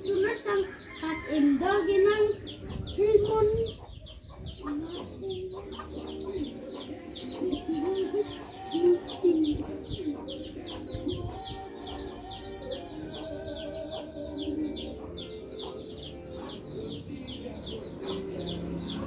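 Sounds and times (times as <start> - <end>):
chickens clucking: 0.0 - 19.0
bird chirping rapidly: 2.1 - 19.0.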